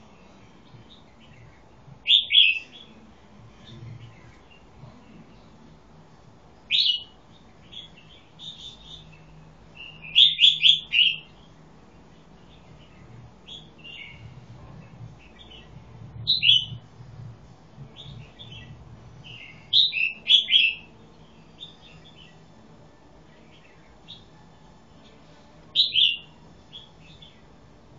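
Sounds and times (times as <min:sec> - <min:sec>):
bird chirping song: 0:00.0 - 0:05.4, 0:06.6 - 0:16.9, 0:17.8 - 0:22.6, 0:23.2 - 0:27.6.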